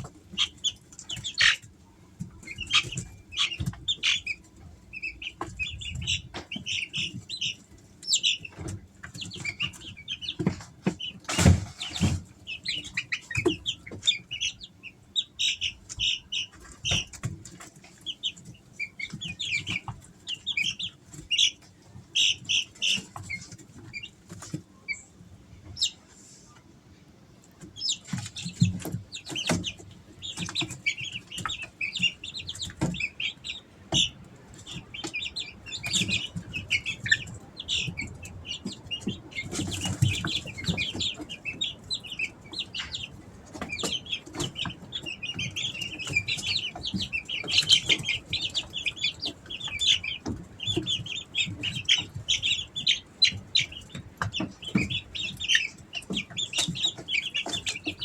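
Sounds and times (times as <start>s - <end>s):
chicks peeping and chirping: 0.0s - 58.0s.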